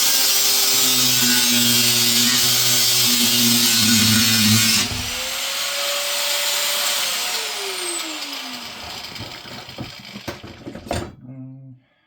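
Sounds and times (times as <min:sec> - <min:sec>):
angle grinder cutting metal: 0:00.0 - 0:10.5.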